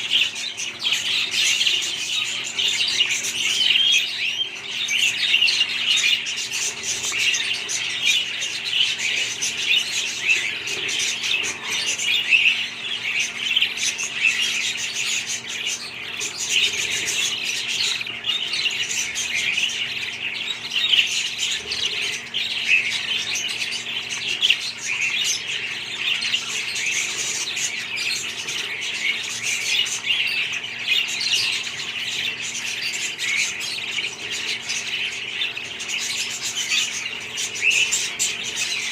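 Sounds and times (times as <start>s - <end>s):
budgerigars chattering and squawking: 0.0s - 38.9s
faint steady hum: 0.0s - 38.9s.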